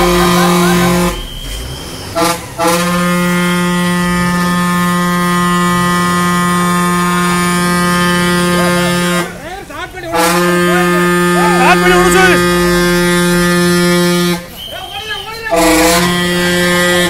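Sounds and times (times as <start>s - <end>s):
vehicle horn blast: 0.0s - 9.4s, 10.1s - 17.0s.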